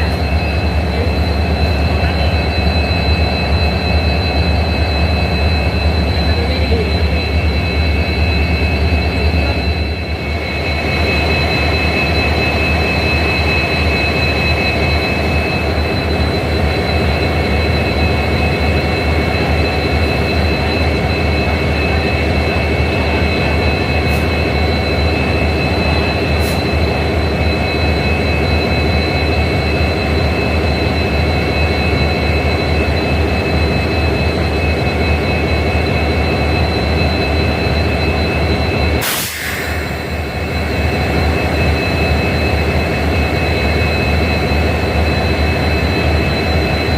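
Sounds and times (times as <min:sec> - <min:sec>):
constant high whine: 0:00.0 - 0:46.9
diesel locomotives idling: 0:00.0 - 0:46.9.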